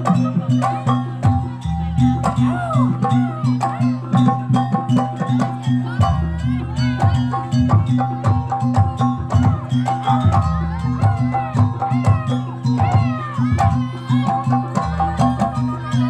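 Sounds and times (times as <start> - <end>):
drums and struck percussion: 0.0 - 16.0.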